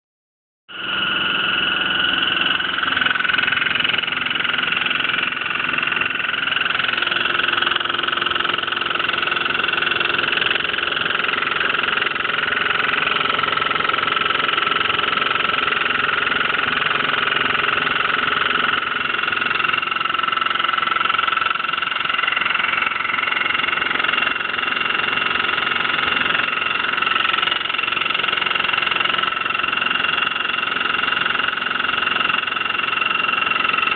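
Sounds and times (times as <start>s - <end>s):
washing machine high-pitched whine: 0.7s - 33.9s.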